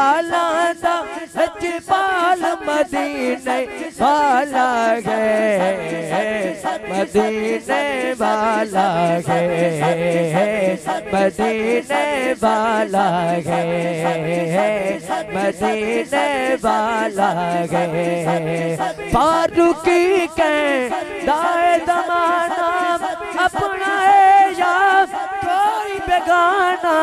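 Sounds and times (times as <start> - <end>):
man singing through loudspeaker: 0.0 - 27.0.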